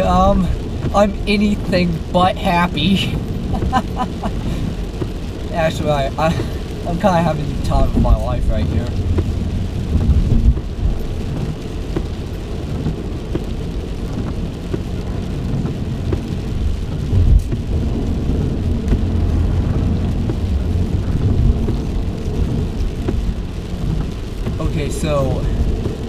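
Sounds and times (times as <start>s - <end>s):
car driving on wet road: 0.0s - 26.0s
heavy rain on a car: 0.0s - 26.0s.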